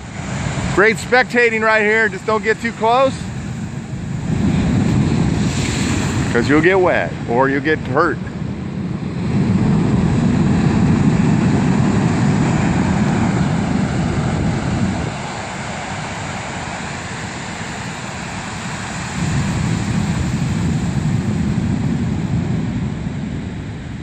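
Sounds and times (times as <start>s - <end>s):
surf breaking on cobblestone beach: 0.0s - 24.0s.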